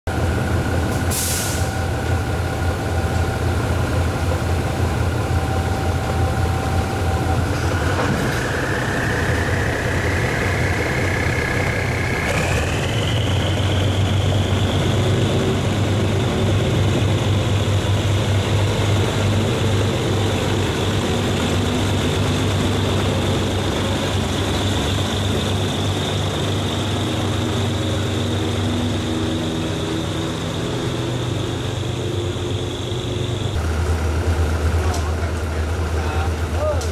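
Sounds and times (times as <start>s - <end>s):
diesel locomotive engine rumble: 0.0s - 36.9s
high whine rising in pitch: 0.1s - 34.5s.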